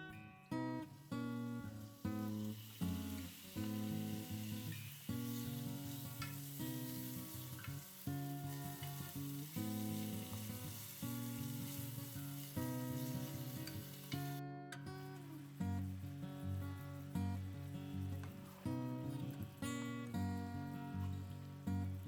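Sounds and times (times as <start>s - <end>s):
acoustic guitar music: 0.0s - 22.0s
food sizzling in a pan: 0.5s - 22.0s.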